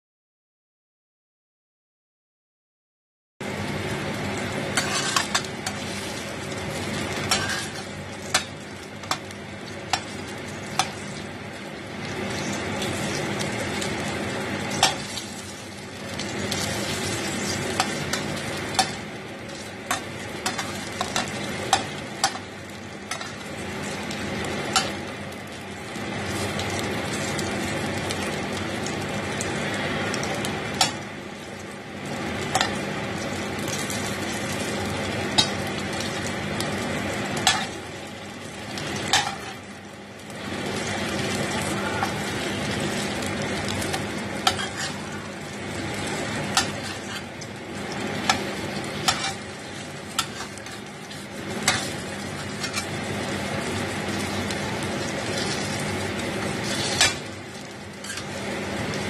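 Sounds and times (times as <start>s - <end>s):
food sizzling in a pan: 3.4s - 59.0s.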